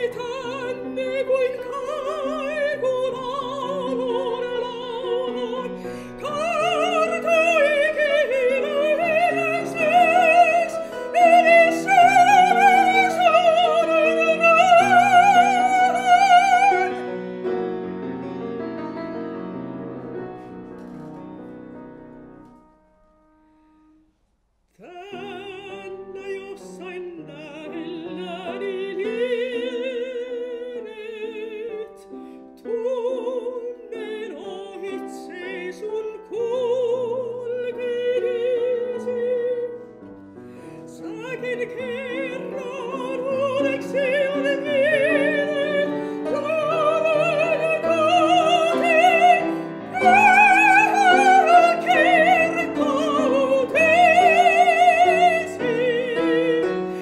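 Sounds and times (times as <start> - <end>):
soprano singing: 0.0 - 23.9, 24.8 - 57.0
piano accompaniment: 0.0 - 24.2, 24.8 - 57.0.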